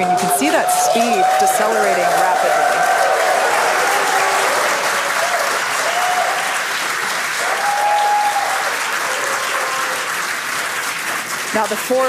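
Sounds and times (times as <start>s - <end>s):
crowd clapping and cheering: 0.0s - 12.0s.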